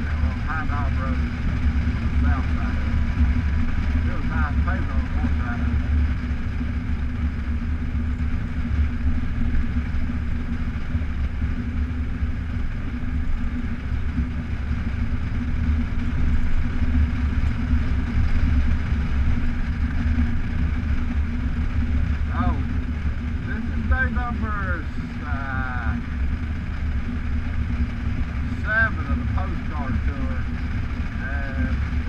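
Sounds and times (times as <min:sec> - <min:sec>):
motorcycle engine cruising: 0:00.0 - 0:32.0
road noise on gravel: 0:00.0 - 0:32.0.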